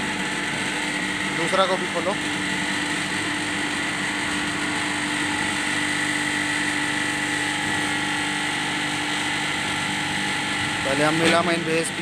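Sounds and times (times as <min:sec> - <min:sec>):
machinery high whine: 0:00.0 - 0:12.0
machinery low hum: 0:00.0 - 0:12.0.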